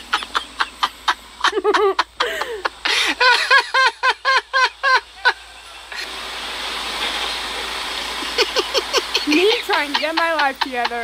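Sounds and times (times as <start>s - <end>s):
high-pitched rhythmic laughter: 0.0s - 6.1s, 8.2s - 11.0s
water spraying from broken pipe: 0.0s - 11.0s.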